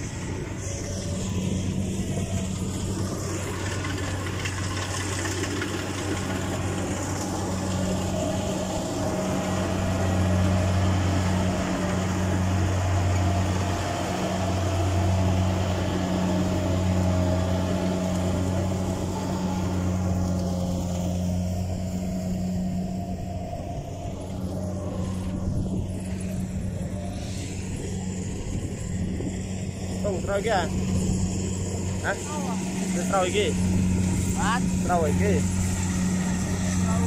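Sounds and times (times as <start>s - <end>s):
combine harvester engine hum: 0.0s - 37.0s.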